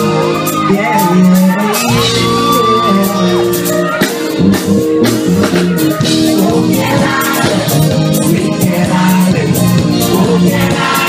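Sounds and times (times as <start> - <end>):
drum kit: 0.0 - 11.0
electric guitar: 0.0 - 11.0
keyboard: 0.0 - 11.0.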